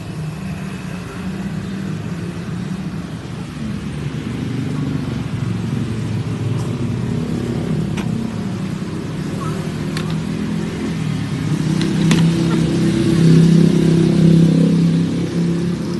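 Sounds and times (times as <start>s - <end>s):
vehicle engine rumbling: 0.0s - 15.9s.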